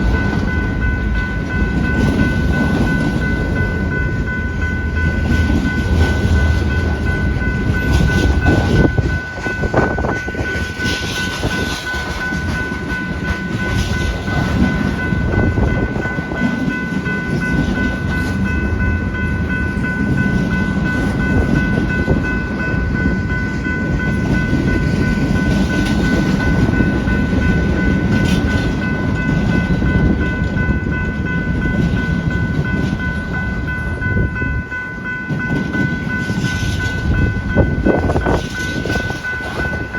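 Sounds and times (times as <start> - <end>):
freight train cars rolling: 0.0 - 39.9
wind buffeting microphone: 0.0 - 39.9.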